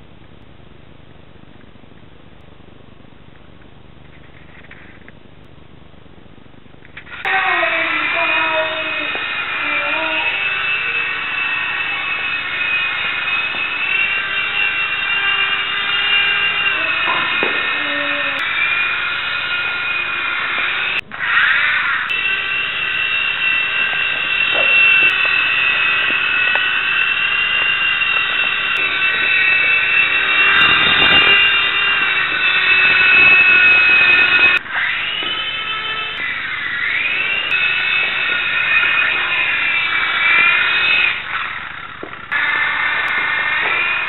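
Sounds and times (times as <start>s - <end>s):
small helicopter rotor whining: 7.0s - 44.0s
rush of rotor noise: 8.0s - 44.0s.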